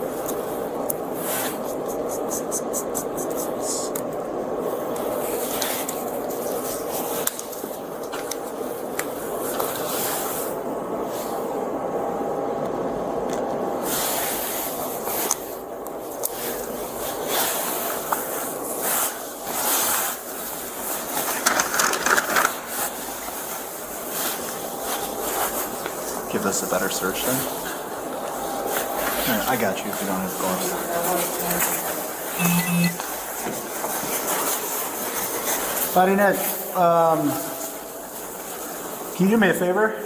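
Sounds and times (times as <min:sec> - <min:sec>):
rail car rumble and hiss: 0:00.0 - 0:32.4, 0:33.2 - 0:40.0.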